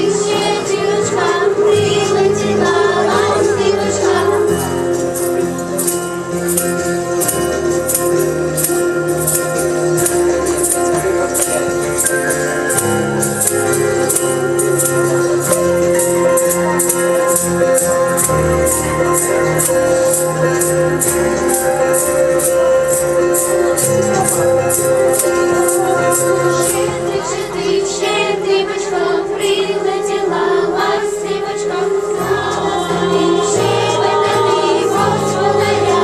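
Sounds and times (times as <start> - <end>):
jingling percussion: 0.0 - 36.0
sustained keyboard chords: 0.0 - 36.0.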